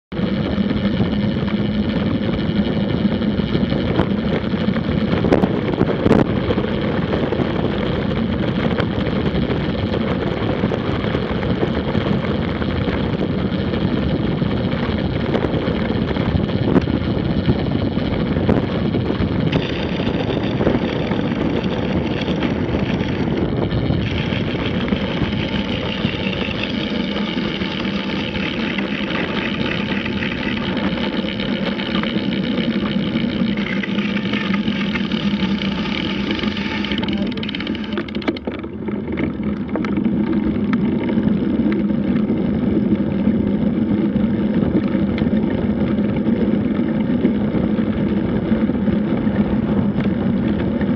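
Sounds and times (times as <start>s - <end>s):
wind rushing over microphone: 0.1s - 50.9s
tyres rolling on tarmac: 0.2s - 50.9s.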